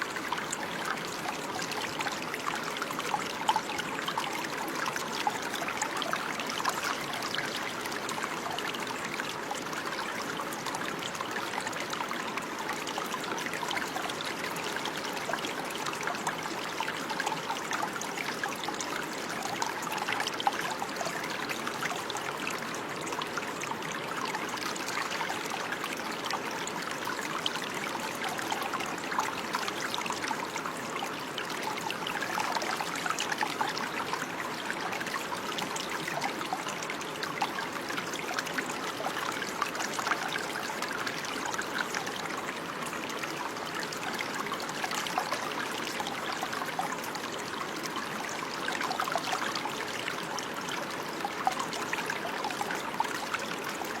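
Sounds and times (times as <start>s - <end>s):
stream babbling and gurgling: 0.0s - 54.0s.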